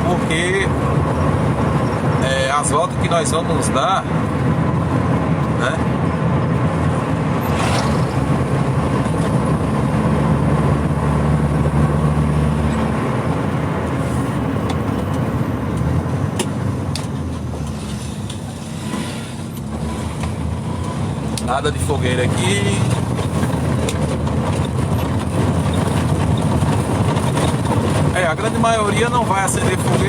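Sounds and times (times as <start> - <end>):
road noise: 0.0 - 30.0
vehicle engine hum: 0.0 - 30.0.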